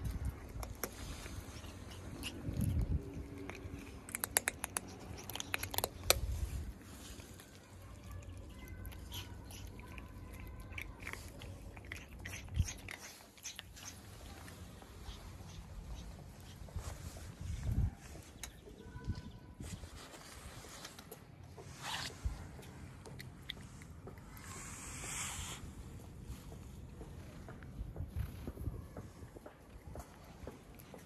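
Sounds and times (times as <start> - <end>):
cats crunching dry kibble: 0.0 - 31.0.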